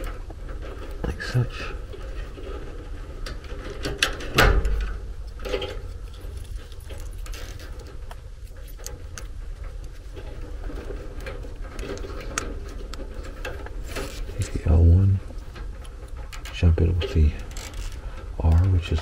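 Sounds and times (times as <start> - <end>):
rustling and clicking wires: 0.0 - 19.0
steady low hum: 0.0 - 19.0.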